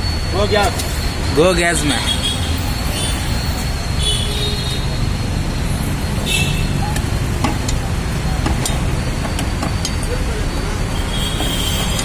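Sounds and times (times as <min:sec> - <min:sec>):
traffic noise: 0:00.0 - 0:12.0
vehicle engine rumble: 0:00.0 - 0:12.0.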